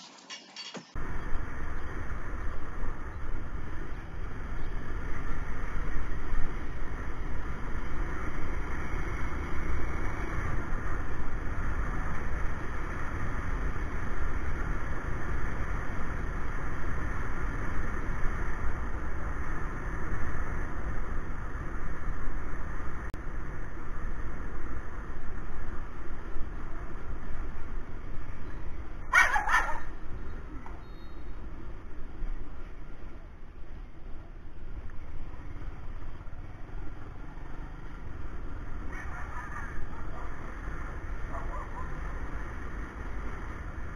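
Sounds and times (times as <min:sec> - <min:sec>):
motorcycle engine running: 0:01.0 - 0:43.9.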